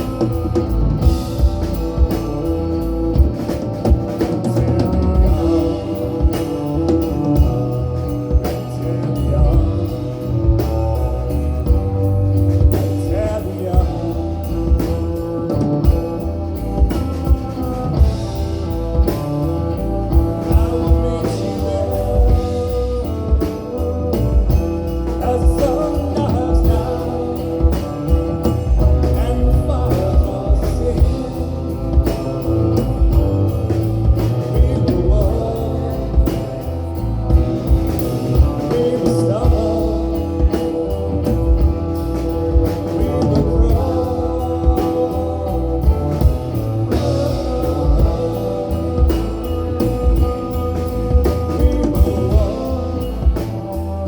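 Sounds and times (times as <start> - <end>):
drone instruments: 0.0 - 54.0
drum beat: 0.0 - 54.0
electric cello: 0.0 - 54.0
fretless bass: 0.0 - 54.0
guitar: 0.0 - 54.0.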